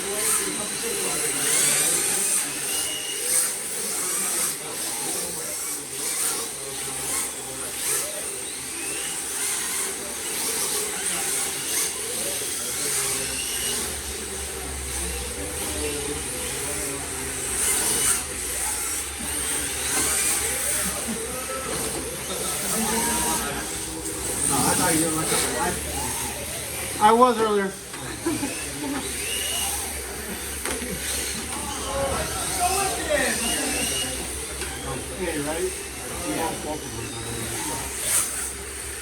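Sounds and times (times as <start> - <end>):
rc car motor whine: 0.0 - 39.0.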